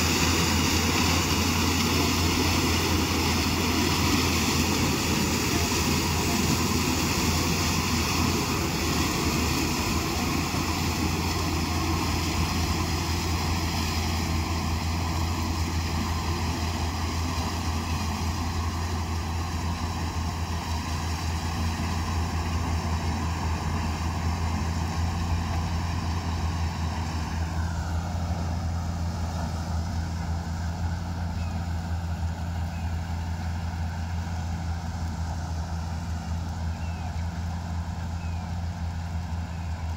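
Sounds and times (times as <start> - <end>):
harvester humming and whining: 0.0 - 39.9.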